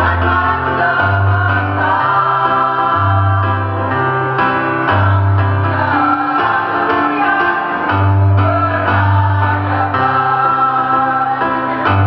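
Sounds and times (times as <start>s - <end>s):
women's choir singing: 0.0s - 12.0s.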